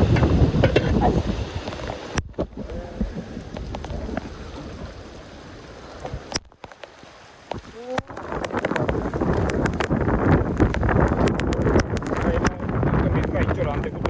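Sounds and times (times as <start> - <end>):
drips and splashes: 0.0 - 14.0
heavy rain: 0.0 - 14.0.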